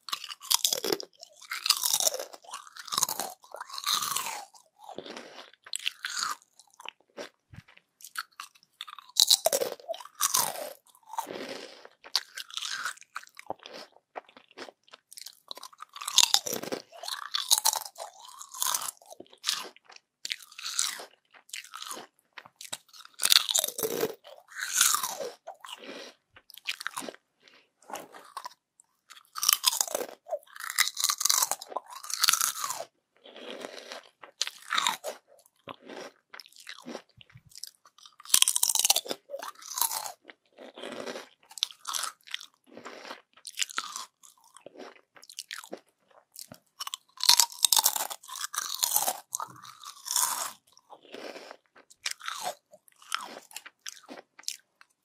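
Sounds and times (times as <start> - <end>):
crispy chips crunching: 0.0 - 55.0.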